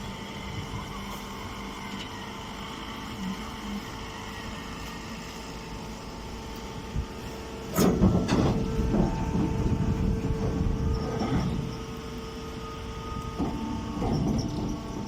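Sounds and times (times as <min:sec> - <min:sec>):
hay baler humming and clattering: 0:00.0 - 0:15.0.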